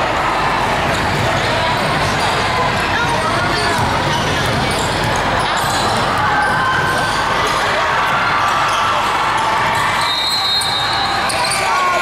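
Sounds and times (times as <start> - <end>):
gym crowd noise: 0.0 - 12.0.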